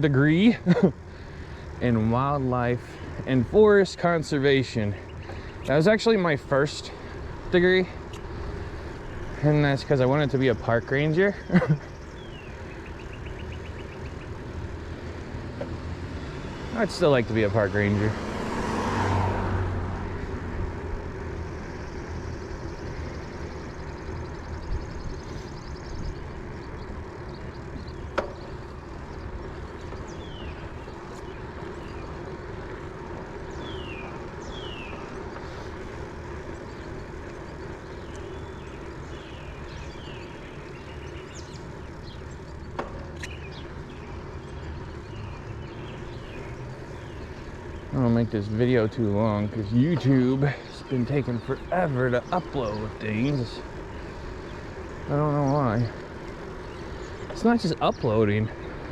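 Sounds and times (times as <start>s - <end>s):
traffic rumble: 0.0s - 58.9s
bird chirps: 1.1s - 18.0s, 20.2s - 58.9s.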